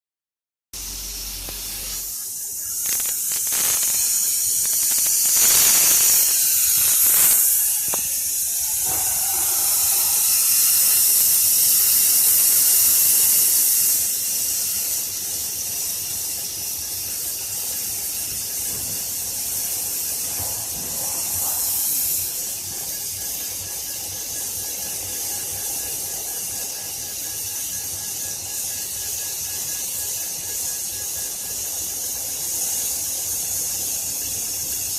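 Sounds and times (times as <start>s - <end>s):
laser cutting machine hissing: 0.8s - 34.9s.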